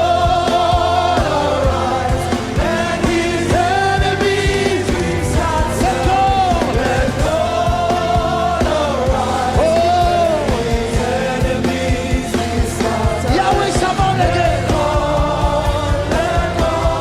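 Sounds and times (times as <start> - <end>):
band with bass and drums: 0.0 - 17.0.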